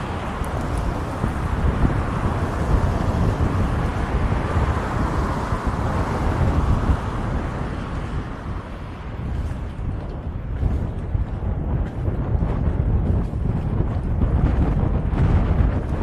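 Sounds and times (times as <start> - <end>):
skate wheels rolling on pavement: 0.0 - 16.0
wind buffeting microphone: 0.0 - 16.0.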